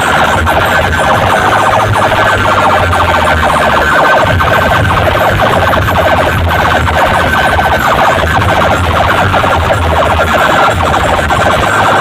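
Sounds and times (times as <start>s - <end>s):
pulsing bass: 0.0s - 12.0s
siren-like electronic tone: 0.0s - 12.0s.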